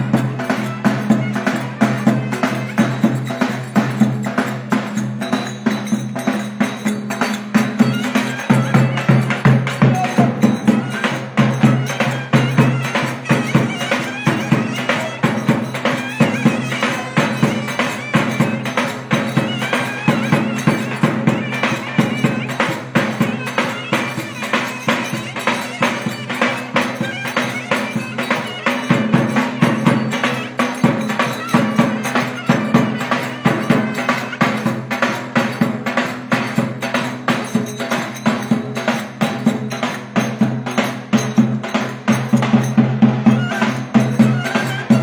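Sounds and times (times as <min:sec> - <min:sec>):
reed wind instrument melody: 0:00.0 - 0:45.0.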